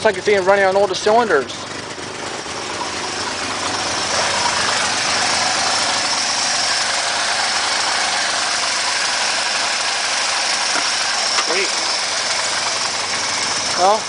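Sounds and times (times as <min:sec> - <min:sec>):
petrol engine idling: 0:00.0 - 0:14.0.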